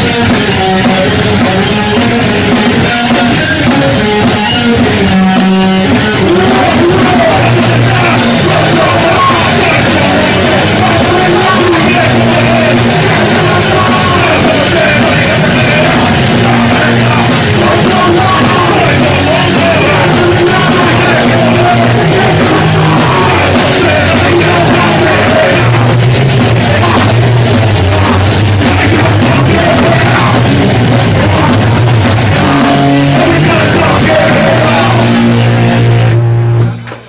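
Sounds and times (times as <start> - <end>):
punk rock band playing live: 0.0 - 37.0
singer shouting into microphone: 2.7 - 26.0, 26.6 - 36.0.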